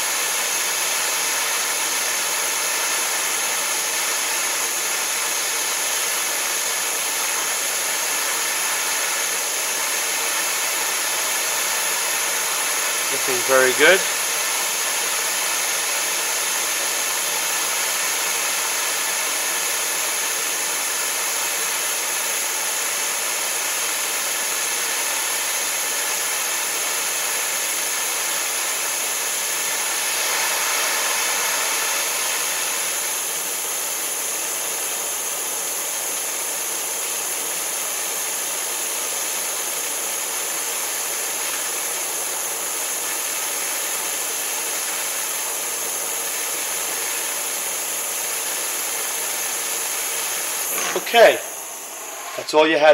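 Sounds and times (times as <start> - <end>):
gas torch flame hissing: 0.0 - 52.9.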